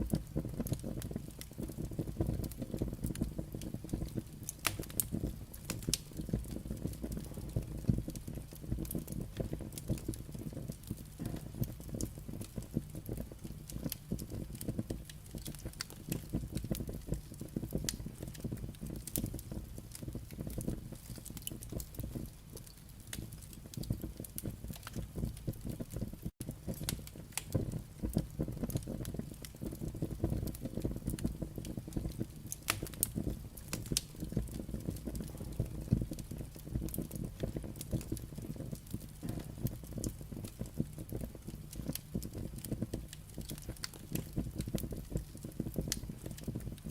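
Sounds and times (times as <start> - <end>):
firewood crackling: 0.0 - 46.9.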